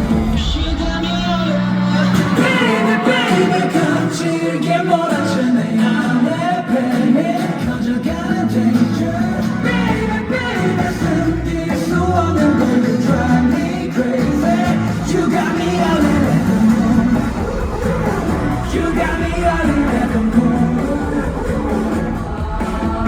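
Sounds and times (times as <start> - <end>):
bass guitar: 0.0 - 4.0, 7.6 - 23.0
live pop-rock song: 0.0 - 23.0
man singing: 0.0 - 23.0.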